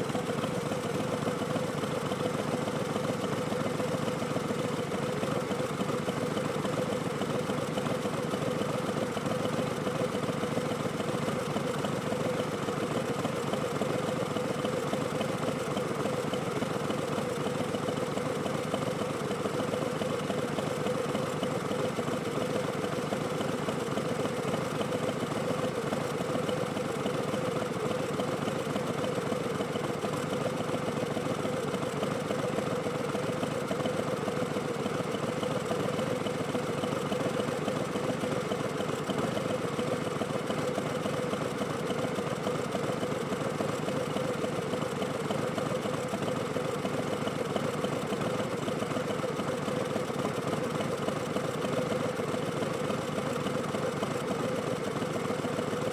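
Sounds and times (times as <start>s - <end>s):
motorcycle engine running steadily: 0.0s - 55.9s.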